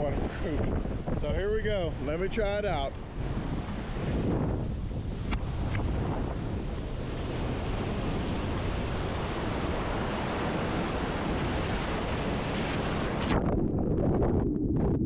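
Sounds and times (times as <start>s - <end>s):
ocean surf breaking on beach: 0.0s - 13.4s
muffled underwater wash: 0.0s - 15.0s
wind on microphone: 0.0s - 15.0s.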